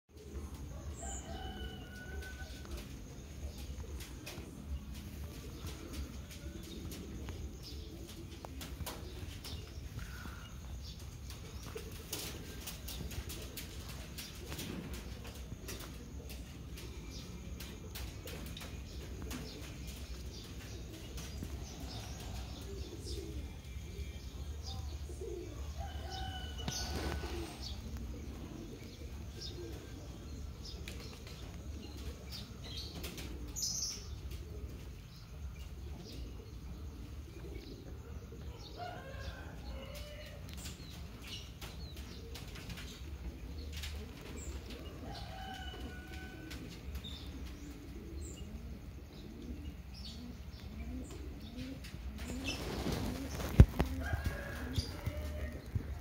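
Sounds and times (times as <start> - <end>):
doves cooing: 0.1 - 56.0
small birds chirping: 0.1 - 56.0.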